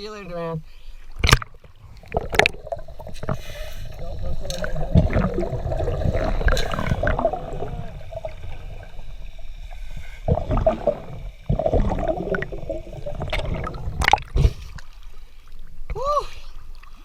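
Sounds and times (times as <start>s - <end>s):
underwater regulator bubbles: 1.1s - 15.8s.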